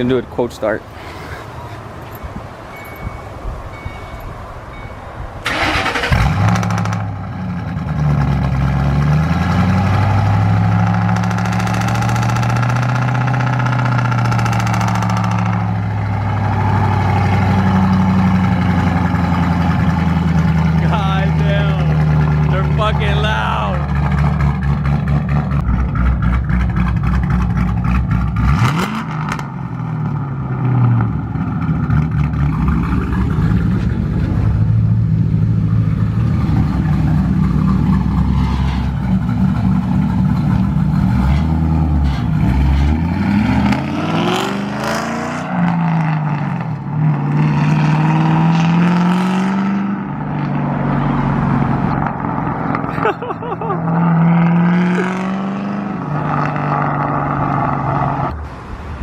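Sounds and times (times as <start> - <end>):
car engine idling and revving: 1.4 - 59.0.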